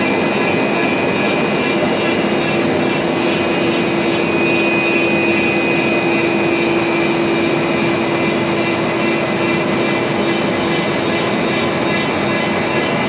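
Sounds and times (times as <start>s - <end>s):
router spindle whine: 0.0s - 13.0s.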